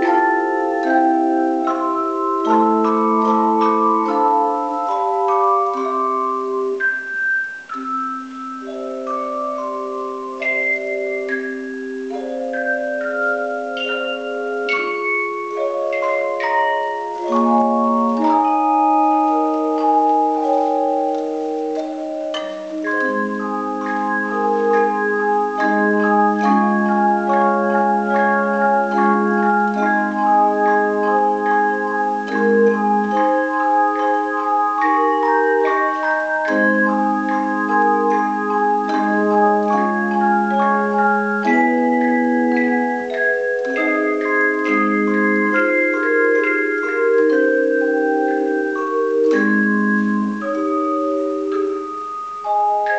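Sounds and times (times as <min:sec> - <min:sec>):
handheld chimes playing a hymn: 0:00.0 - 0:52.9.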